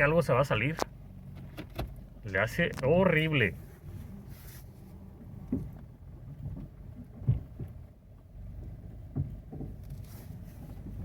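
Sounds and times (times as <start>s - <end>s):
car rolling with low rumble: 0.0s - 11.0s.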